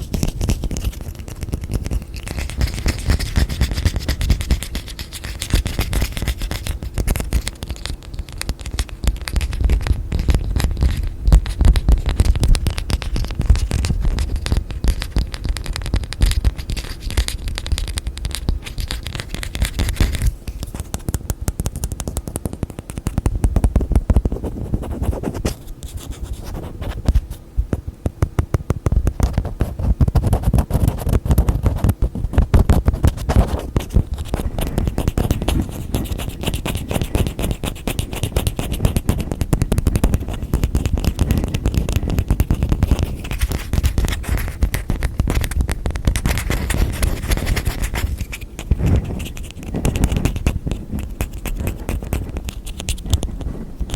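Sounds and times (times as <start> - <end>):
fingers tapping on containers: 0.1 - 24.4, 31.4 - 53.3.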